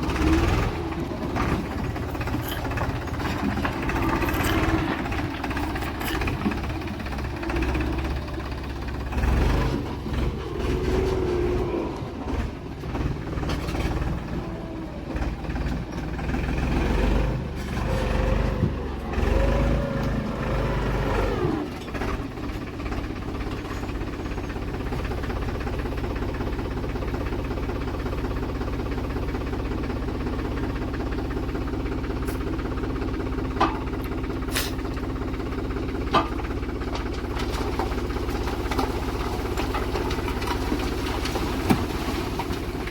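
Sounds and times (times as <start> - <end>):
diesel engine revving and idling: 0.0 - 42.9.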